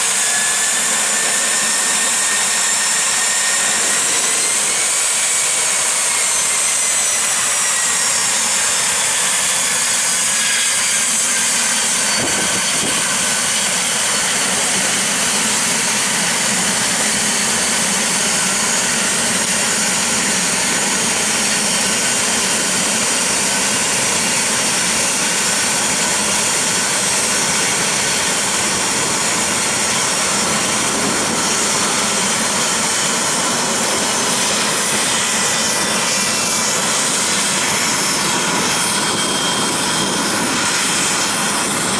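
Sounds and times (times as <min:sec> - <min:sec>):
jet engines whining: 0:00.0 - 0:41.9.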